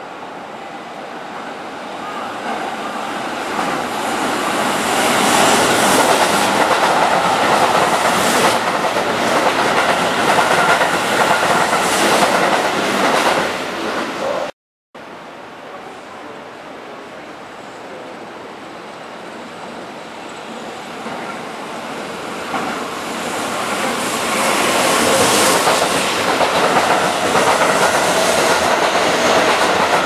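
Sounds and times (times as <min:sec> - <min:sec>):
electric train passing: 0:00.0 - 0:14.5, 0:15.8 - 0:30.0.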